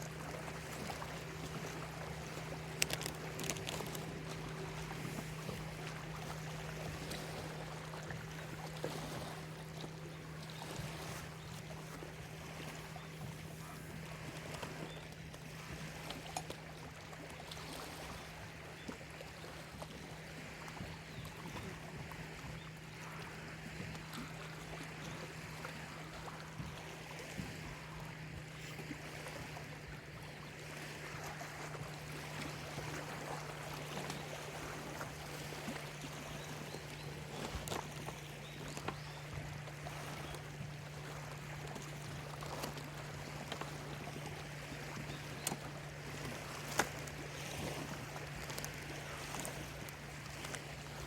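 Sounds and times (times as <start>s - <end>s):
steady low hum: 0.0s - 51.0s
waves lapping at shore: 0.0s - 51.0s.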